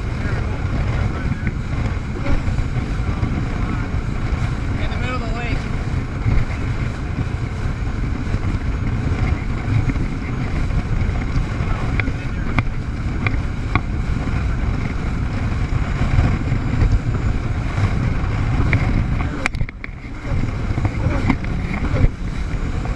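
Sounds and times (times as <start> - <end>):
jet ski engine: 0.0 - 22.9
water rushing: 0.0 - 22.9
wind buffeting microphone: 0.0 - 22.9.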